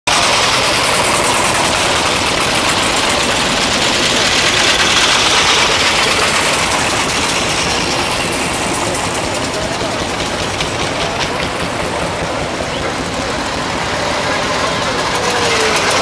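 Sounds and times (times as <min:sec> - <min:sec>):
old cars driving slowly past: 0:00.1 - 0:16.0.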